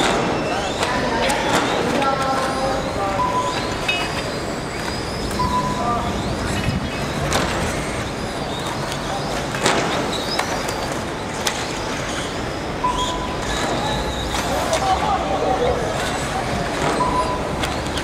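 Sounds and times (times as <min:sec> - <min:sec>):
remote-control car running: 0:00.0 - 0:18.0.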